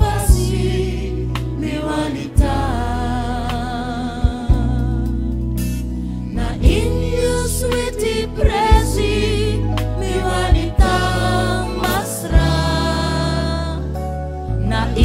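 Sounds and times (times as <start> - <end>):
gospel singing with band: 0.0 - 5.3, 6.3 - 15.0.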